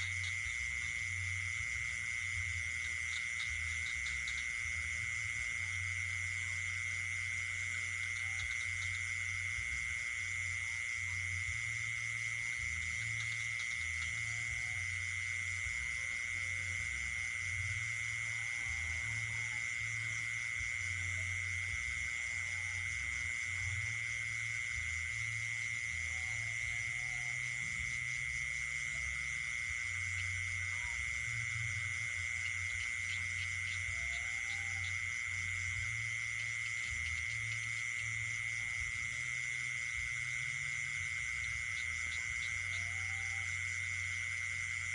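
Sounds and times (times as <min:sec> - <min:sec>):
low irregular pulsing: 0:00.0 - 0:44.9
shrill insect trill: 0:00.0 - 0:44.9.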